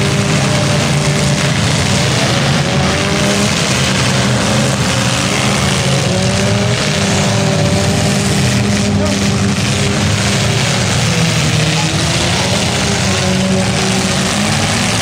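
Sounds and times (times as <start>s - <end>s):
car engines running loudly: 0.0s - 15.0s.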